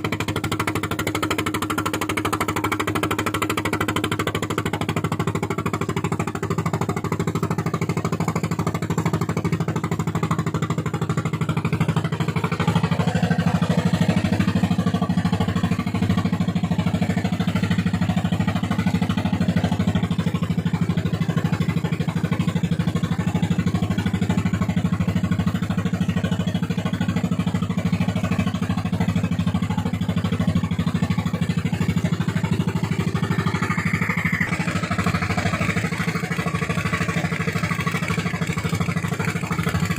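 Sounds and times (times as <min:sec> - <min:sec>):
boat engine running hard: 0:00.0 - 0:39.9.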